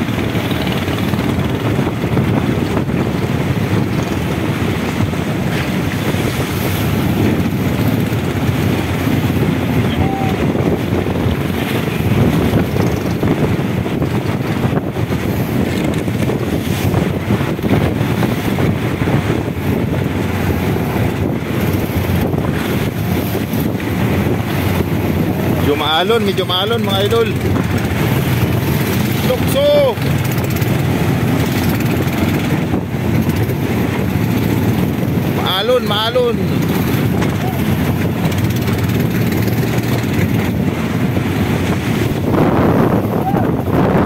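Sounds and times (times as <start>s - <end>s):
boat engine drone: 0.0s - 44.0s
waves: 0.0s - 44.0s
wind buffeting microphone: 0.0s - 44.0s.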